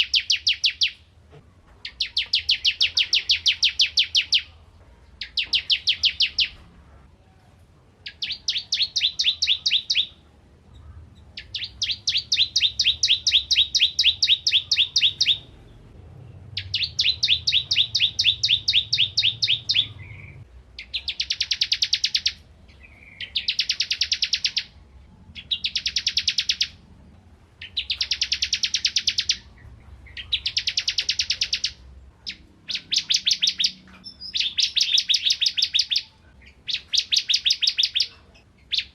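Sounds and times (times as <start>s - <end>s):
bird singing high sharp notes: 0.0s - 1.0s, 1.8s - 4.6s, 5.2s - 6.6s, 8.1s - 10.2s, 10.8s - 15.7s, 16.5s - 26.8s, 27.6s - 38.9s.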